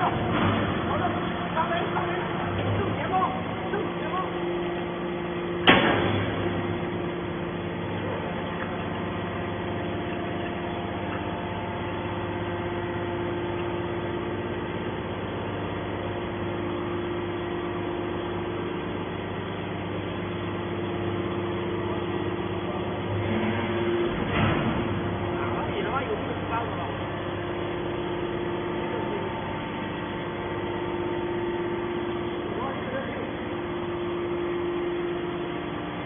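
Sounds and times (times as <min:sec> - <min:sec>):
baler power unit humming: 0:00.0 - 0:36.0.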